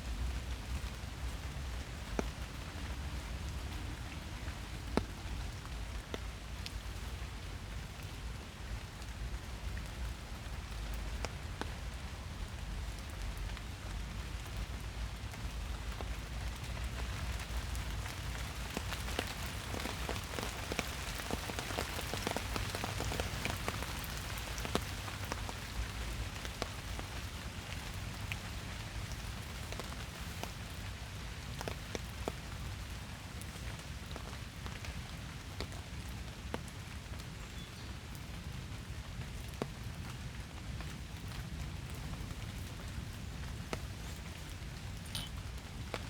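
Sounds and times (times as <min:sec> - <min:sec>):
rain pattering in a forest: 0:00.0 - 0:46.0.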